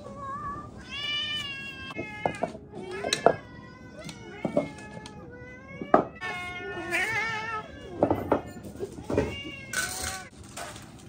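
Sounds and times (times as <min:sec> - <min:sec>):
cats meowing: 0:00.0 - 0:10.3.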